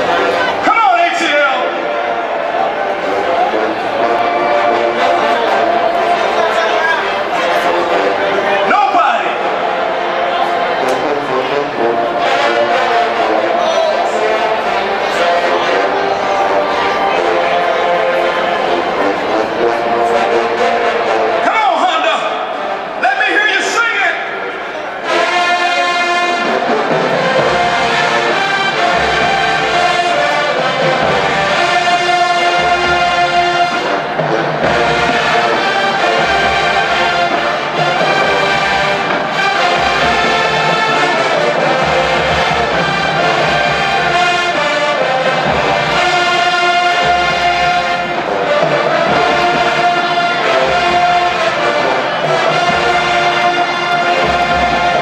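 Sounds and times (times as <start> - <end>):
marching band brass playing: 0.0 - 55.0.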